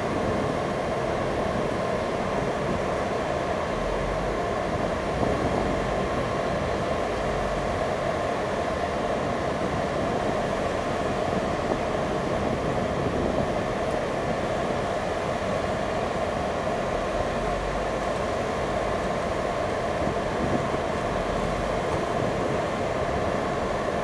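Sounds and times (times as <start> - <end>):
ferry engines droning: 0.0 - 24.0.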